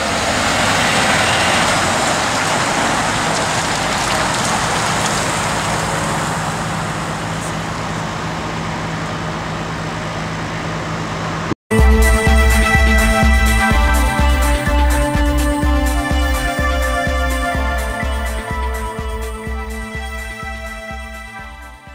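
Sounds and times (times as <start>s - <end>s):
truck engine hum: 0.0s - 21.9s.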